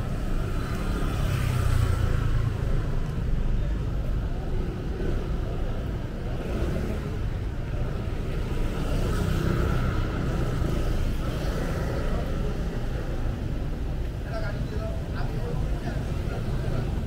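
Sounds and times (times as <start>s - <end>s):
car traffic rumble: 0.0s - 17.0s.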